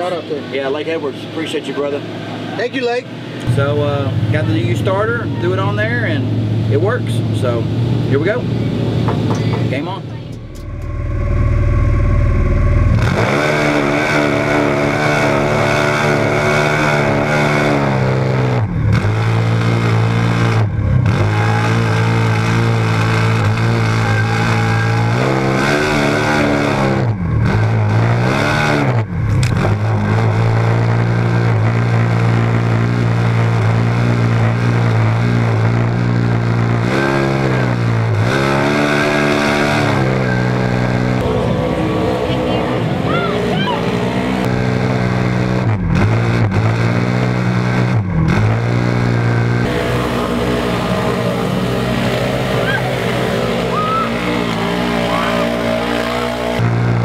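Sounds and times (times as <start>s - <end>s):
engine at high revs: 0.0s - 57.0s.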